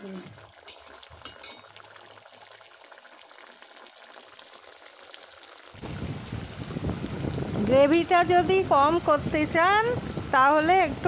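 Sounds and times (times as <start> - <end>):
gravy bubbling and sizzling: 0.0 - 11.0.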